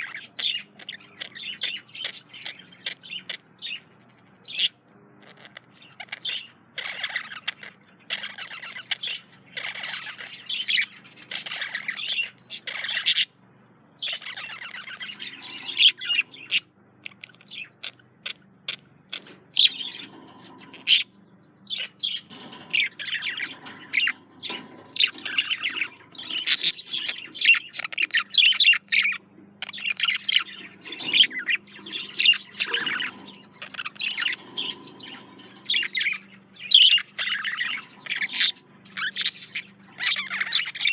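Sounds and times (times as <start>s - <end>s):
budgerigar warbling and chattering: 0.0s - 13.4s, 14.0s - 40.9s.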